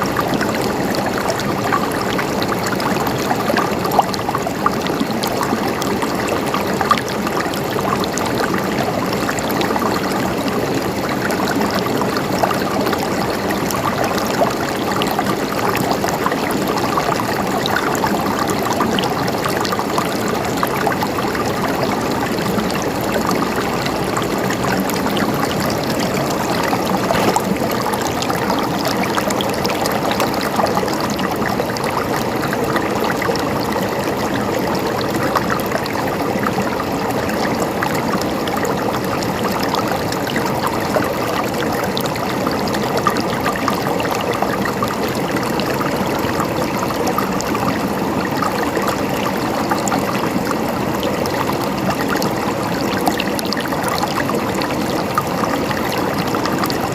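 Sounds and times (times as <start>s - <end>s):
river water rushing over rocks: 0.0s - 56.9s.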